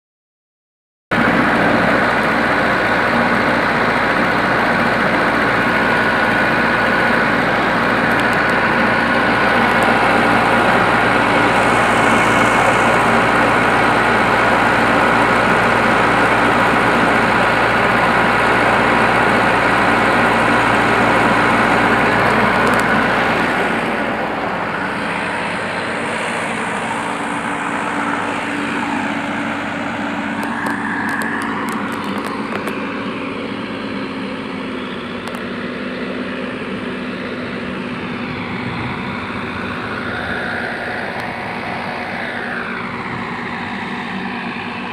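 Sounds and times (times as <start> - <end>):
excavator diesel engine running: 1.1 - 44.9.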